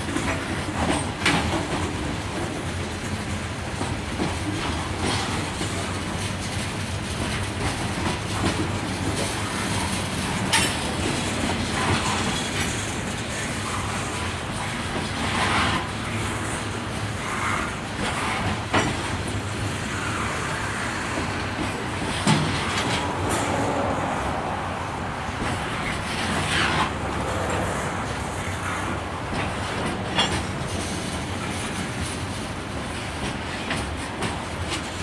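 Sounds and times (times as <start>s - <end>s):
train wheels rolling on rails: 0.0s - 35.0s.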